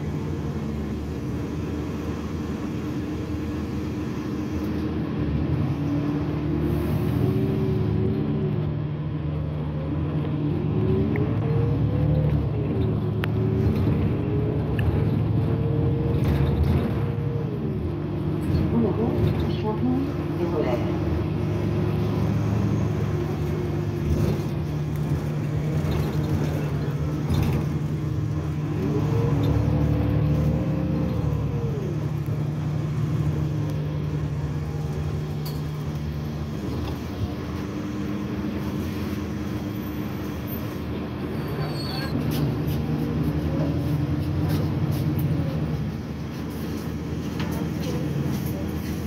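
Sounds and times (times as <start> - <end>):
bus engine hum from inside: 0.0 - 49.0.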